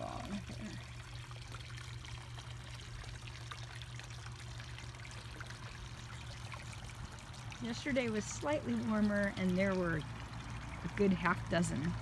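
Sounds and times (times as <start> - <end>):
low steady hum: 0.0 - 12.0
water trickling into pond: 0.0 - 12.0.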